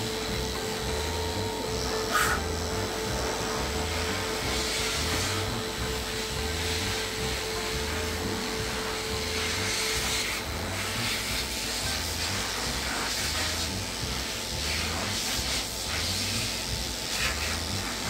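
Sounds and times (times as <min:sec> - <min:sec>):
electric clippers humming: 0:00.0 - 0:18.0.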